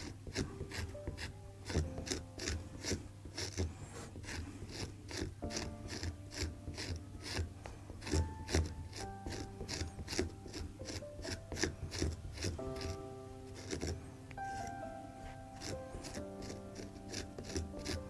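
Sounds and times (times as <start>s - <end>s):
knife scraping cheese rind: 0.0s - 18.0s
quiet background music: 0.0s - 18.0s.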